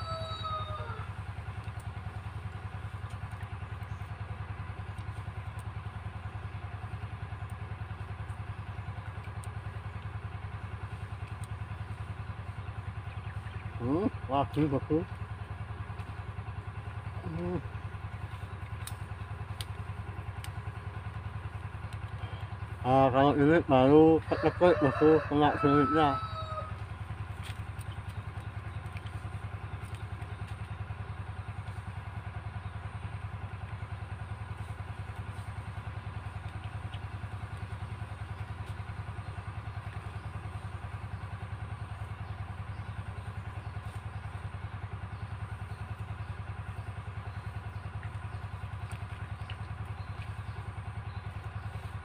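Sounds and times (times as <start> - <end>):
small engine running steadily: 0.0 - 52.0.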